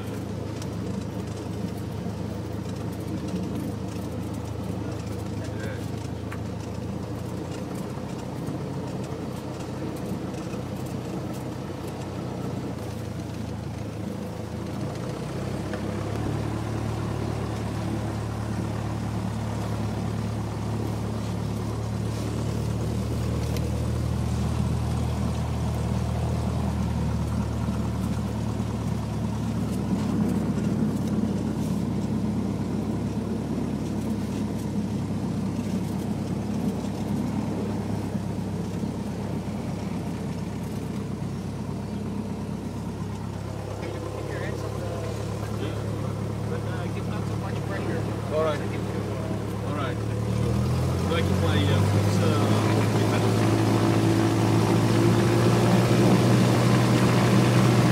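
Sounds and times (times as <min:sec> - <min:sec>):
propeller plane engine droning: 0:00.0 - 0:57.9.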